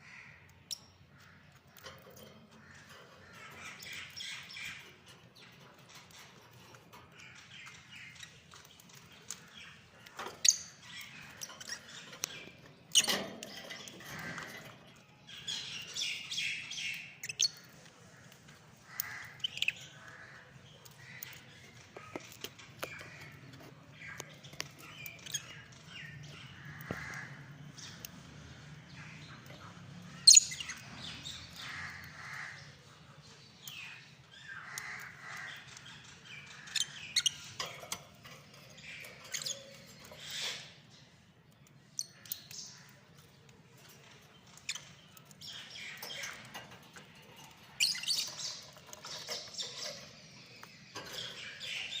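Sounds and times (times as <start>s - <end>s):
lovebirds chirping and squawking: 0.0s - 52.0s.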